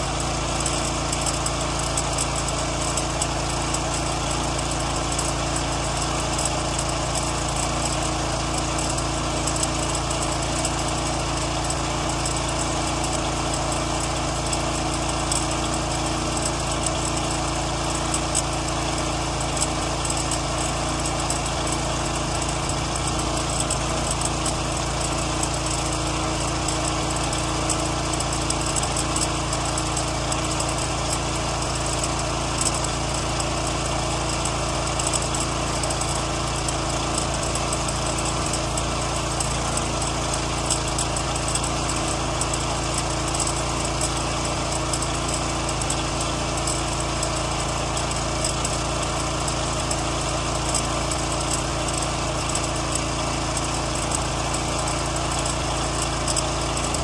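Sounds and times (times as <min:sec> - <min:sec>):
pressure washer engine running: 0:00.0 - 0:57.0
water jet spraying siding: 0:00.0 - 0:57.0.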